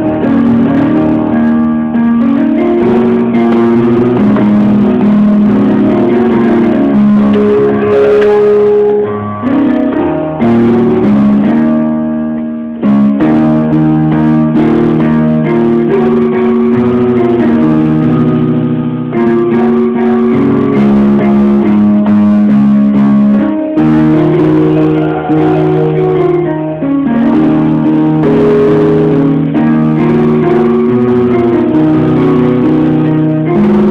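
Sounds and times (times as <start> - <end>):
bass line: 0.0 - 33.9
electronic keyboard chords: 0.0 - 33.9.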